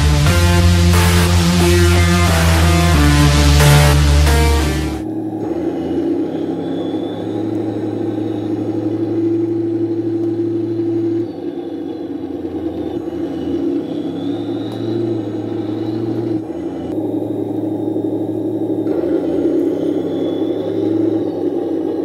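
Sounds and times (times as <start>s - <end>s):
simulated tank engine idling: 0.0s - 22.0s.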